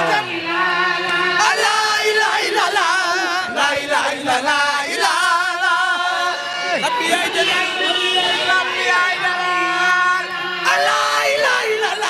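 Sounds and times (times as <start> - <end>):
women chanting together: 0.0 - 12.0.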